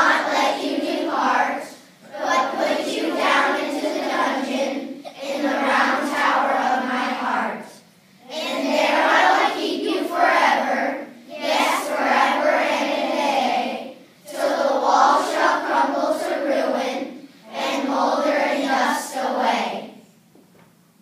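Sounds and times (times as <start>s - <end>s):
children reciting in unison: 0.0s - 20.1s.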